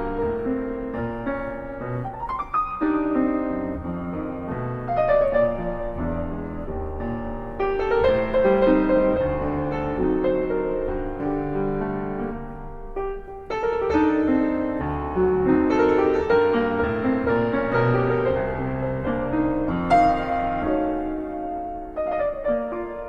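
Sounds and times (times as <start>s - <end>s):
slow piano music: 0.0s - 23.0s.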